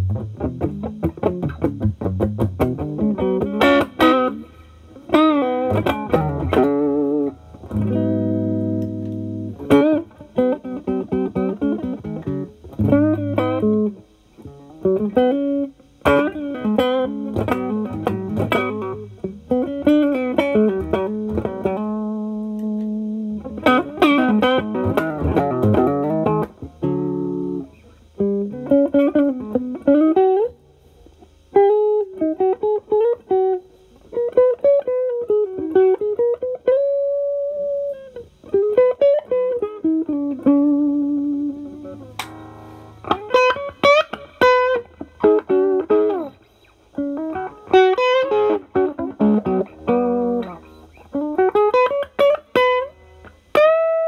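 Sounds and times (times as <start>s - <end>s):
electric guitar lead phrases: 0.0s - 54.0s.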